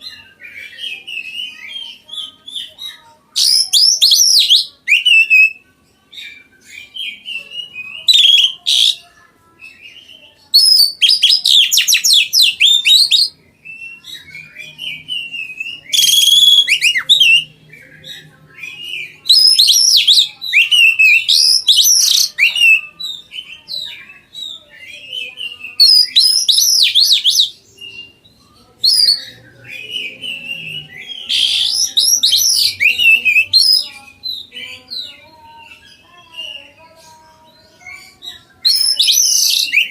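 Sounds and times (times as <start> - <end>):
songbird chirping and whistling: 0.0 - 39.9.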